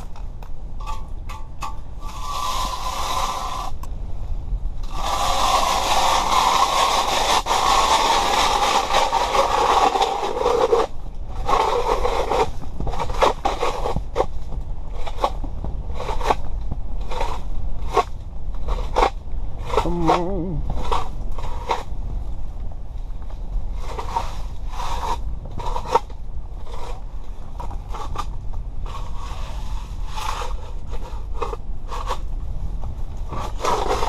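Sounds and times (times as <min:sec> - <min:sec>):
scraping on ice: 0:01.6 - 0:03.8, 0:04.8 - 0:21.9, 0:23.7 - 0:32.3, 0:33.3 - 0:34.0.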